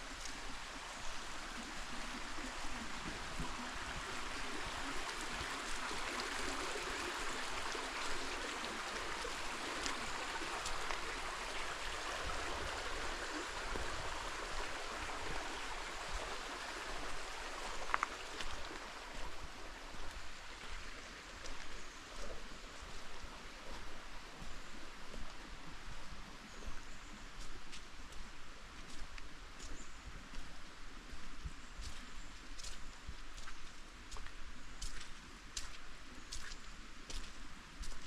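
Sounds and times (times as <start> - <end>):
creek water flowing over rocks: 0.0 - 38.0.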